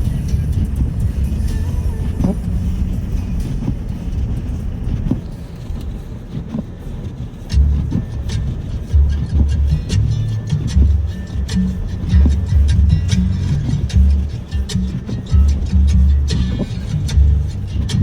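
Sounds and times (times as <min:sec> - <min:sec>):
background music with bass: 0:00.0 - 0:18.0
car driving rumble: 0:00.0 - 0:18.0.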